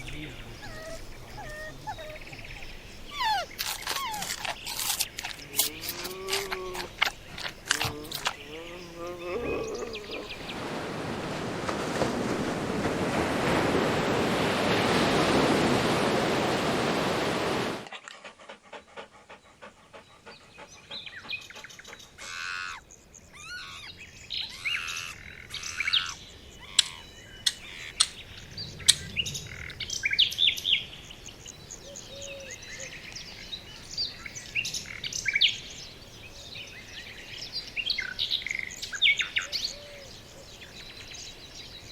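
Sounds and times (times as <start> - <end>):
birds chirping and calling: 0.0 - 11.1, 13.5 - 41.9.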